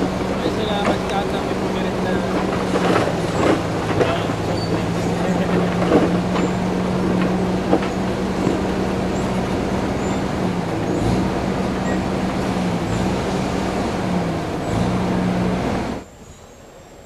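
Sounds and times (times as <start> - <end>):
engine running loudly: 0.0 - 16.0.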